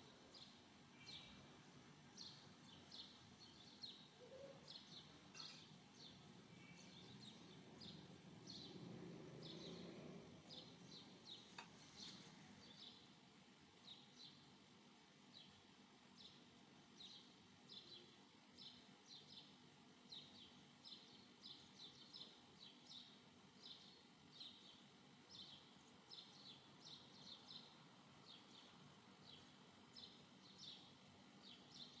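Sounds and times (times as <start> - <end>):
low background hiss: 0.0 - 32.0.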